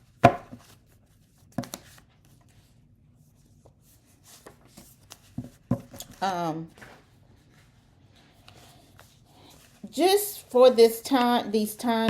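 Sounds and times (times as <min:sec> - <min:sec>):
rustling handling noises: 0:00.0 - 0:11.2.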